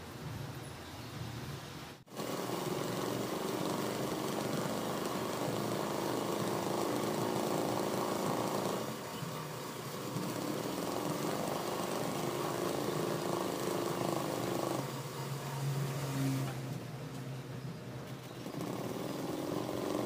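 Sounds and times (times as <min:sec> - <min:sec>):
industrial sewing machine running: 0:02.1 - 0:16.6, 0:18.1 - 0:20.0.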